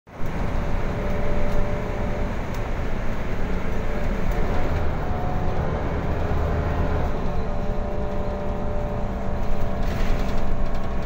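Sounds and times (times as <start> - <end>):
bus engine: 0.1 - 11.0
road noise: 0.1 - 11.0.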